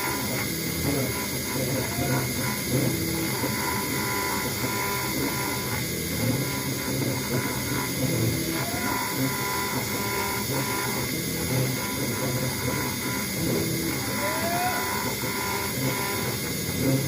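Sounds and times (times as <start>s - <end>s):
axis motors humming: 0.0s - 17.0s
router spindle high whine: 0.0s - 17.0s.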